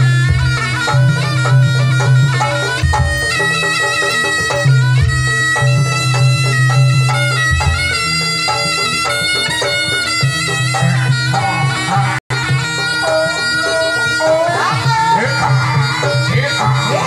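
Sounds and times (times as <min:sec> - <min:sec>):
drum beats: 0:00.0 - 0:17.0
shrill double-reed shawm melody: 0:00.0 - 0:17.0.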